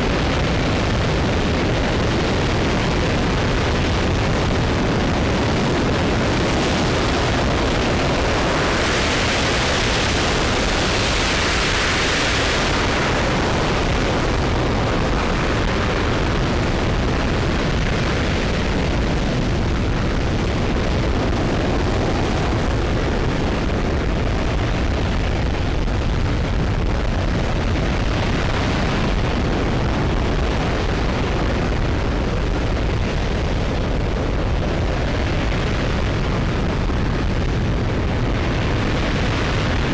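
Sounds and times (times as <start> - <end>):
rocket engine rumble with hiss: 0.0 - 39.9.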